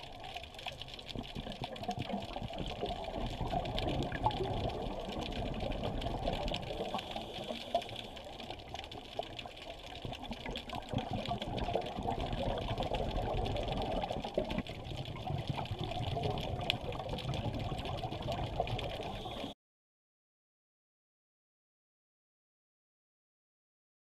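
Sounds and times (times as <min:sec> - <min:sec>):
dense crackle of small clicks: 0:00.0 - 0:19.6
underwater water noise: 0:00.0 - 0:19.6.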